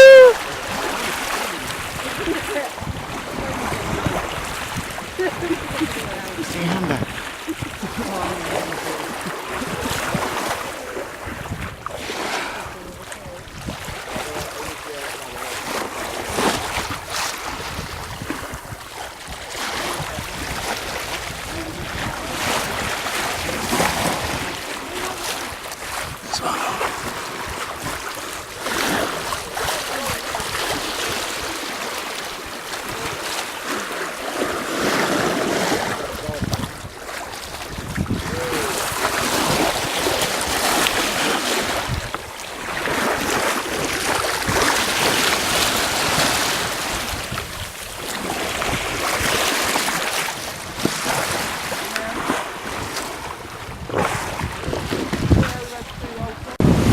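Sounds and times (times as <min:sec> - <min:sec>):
water splashing along hull: 0:00.0 - 0:56.9
wind buffeting microphone: 0:00.0 - 0:56.9.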